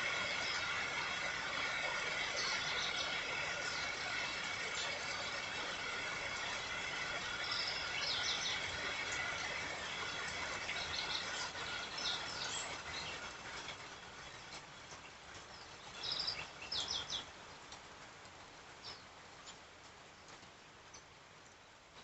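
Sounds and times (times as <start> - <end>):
birds chirping: 0.0 - 17.8
faint steady whine: 0.0 - 22.0
steady rain: 0.0 - 22.0.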